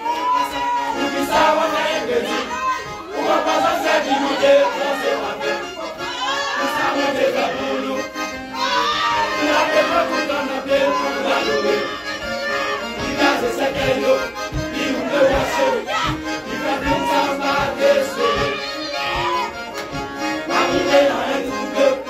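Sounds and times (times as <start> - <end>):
accordion: 0.0 - 22.0
choir singing gospel: 0.0 - 22.0.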